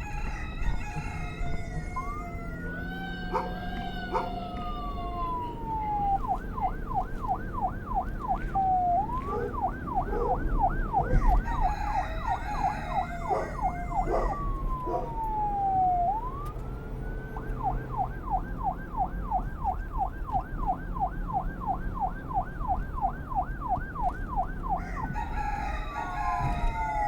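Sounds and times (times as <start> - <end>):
police siren wailing and yelping: 0.0 - 27.0.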